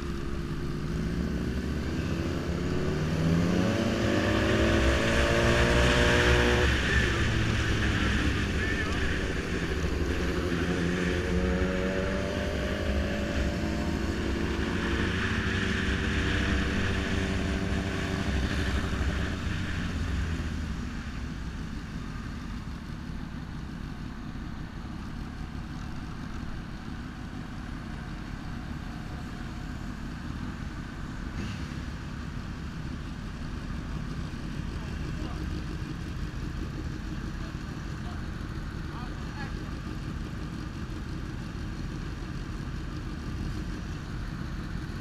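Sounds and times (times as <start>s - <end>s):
motorcycle engine: 0.0s - 45.0s.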